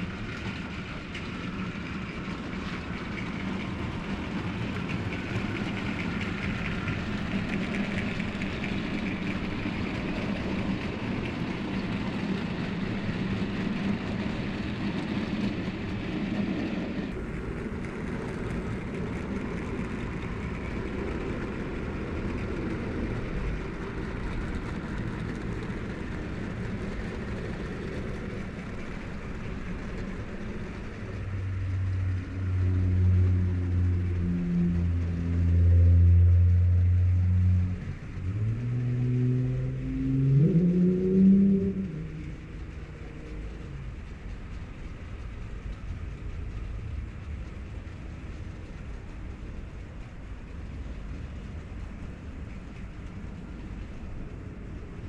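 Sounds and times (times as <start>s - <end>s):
low droning hum: 0.0s - 55.0s
model train whirring on tracks: 0.0s - 55.0s.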